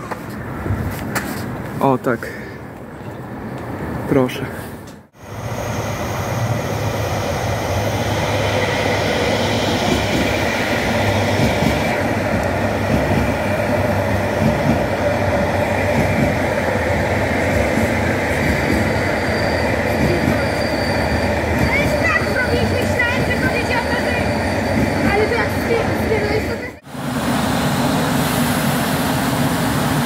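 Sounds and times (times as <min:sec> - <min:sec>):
electric train rolling in: 0:05.1 - 0:30.0
train running past: 0:05.1 - 0:30.0.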